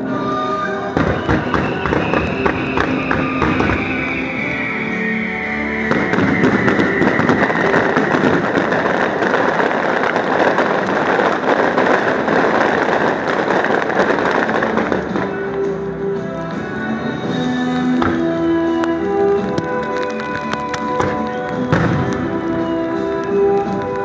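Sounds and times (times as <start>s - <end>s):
background music: 0.0s - 24.0s
fireworks crackling: 0.0s - 24.0s.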